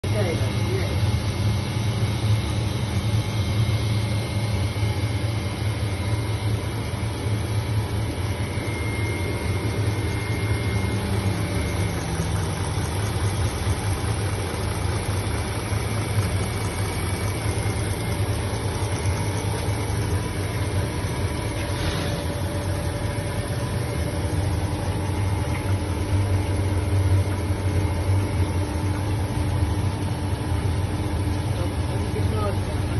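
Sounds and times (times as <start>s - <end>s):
machinery low hum: 0.0s - 32.9s.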